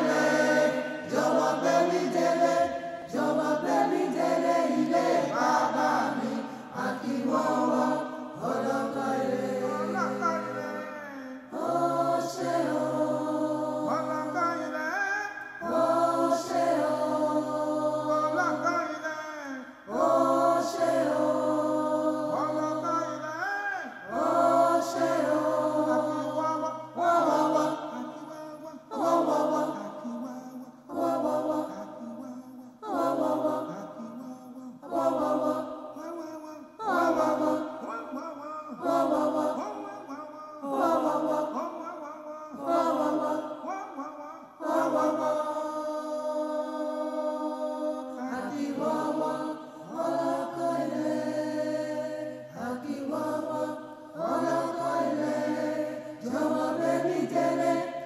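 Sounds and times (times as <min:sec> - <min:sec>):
chant-like singing: 0:00.0 - 0:58.0.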